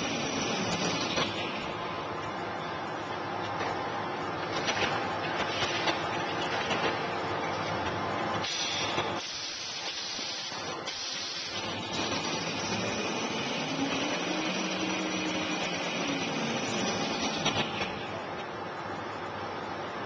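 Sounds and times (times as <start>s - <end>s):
machinery running with hiss: 0.0s - 18.8s.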